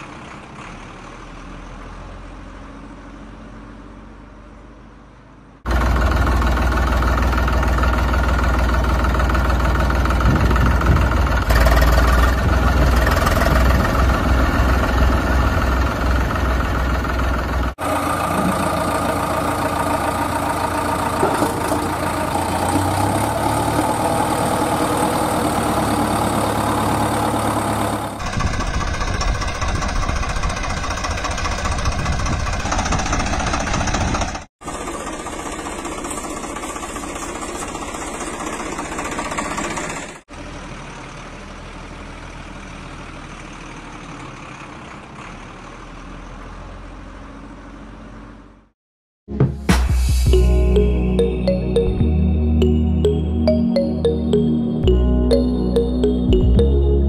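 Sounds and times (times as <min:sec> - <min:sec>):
vehicle engine running and idling: 0:00.0 - 0:48.7.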